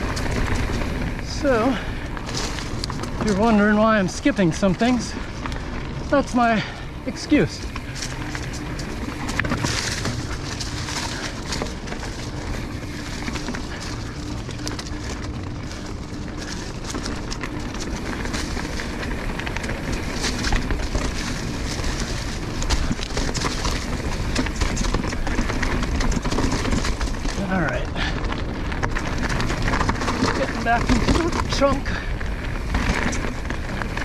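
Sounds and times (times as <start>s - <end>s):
bike rattling over bumps: 0.0s - 34.0s
bike tyres rumbling over dirt: 0.0s - 34.0s.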